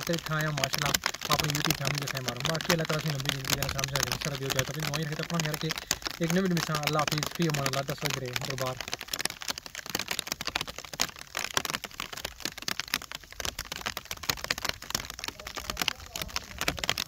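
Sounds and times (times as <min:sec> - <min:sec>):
rain pattering on microphone: 0:00.0 - 0:17.0.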